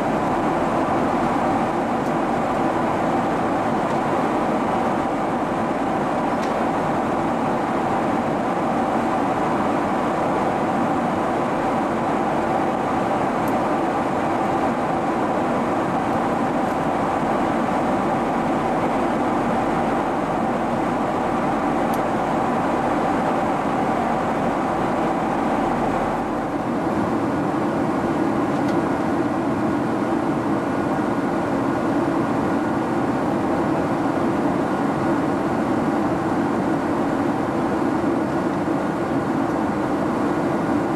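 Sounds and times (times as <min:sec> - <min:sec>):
steady engine hum: 0:00.0 - 0:40.9.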